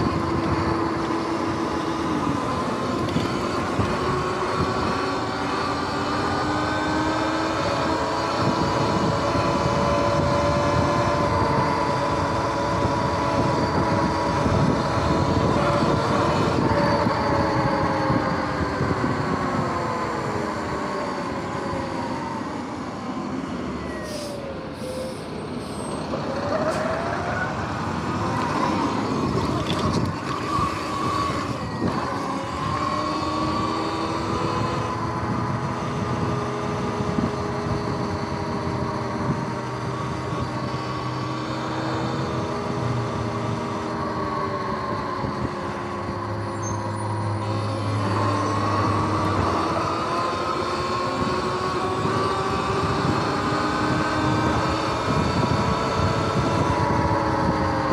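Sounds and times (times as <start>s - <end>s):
wind noise: 0.0s - 22.4s, 26.2s - 57.9s
electric motor and chain whine: 0.0s - 22.8s, 26.1s - 57.9s.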